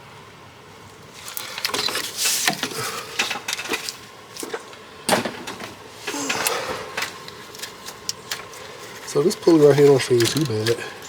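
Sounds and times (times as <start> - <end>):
knocks clicks and scrapes of parts: 1.2 - 11.0.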